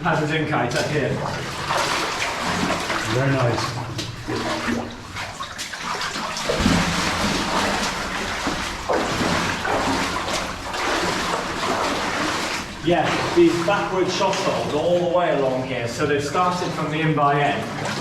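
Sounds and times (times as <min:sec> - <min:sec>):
boots wading through shallow water: 0:00.6 - 0:18.0.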